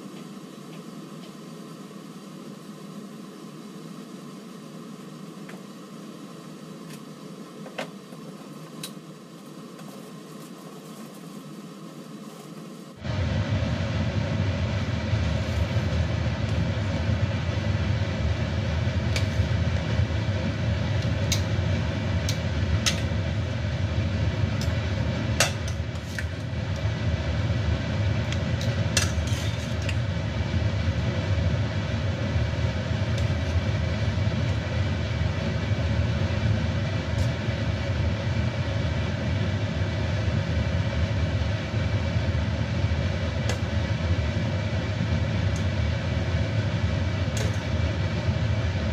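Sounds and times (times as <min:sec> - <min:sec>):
water boiling in a wok: 0:00.0 - 0:48.9.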